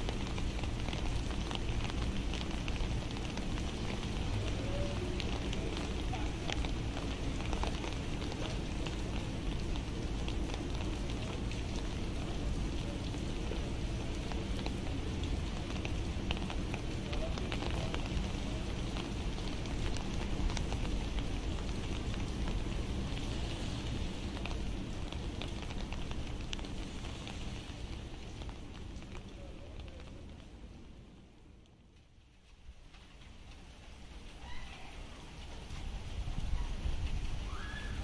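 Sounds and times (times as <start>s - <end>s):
rain falling on a street: 0.0s - 38.0s.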